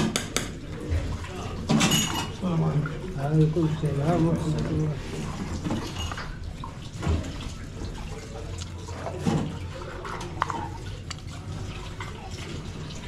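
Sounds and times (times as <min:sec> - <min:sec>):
liquid sloshing in a pot: 0:00.6 - 0:13.0.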